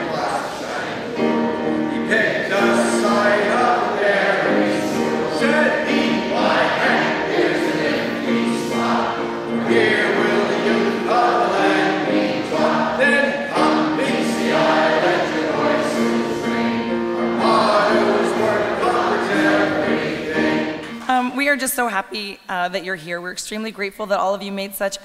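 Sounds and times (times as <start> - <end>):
men singing together: 0.0 - 20.8
grand piano: 0.0 - 24.1.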